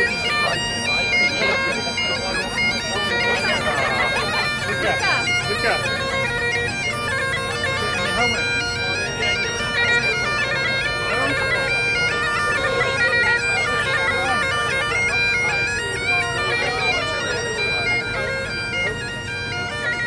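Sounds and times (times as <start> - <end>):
bagpipes playing: 0.0 - 20.0.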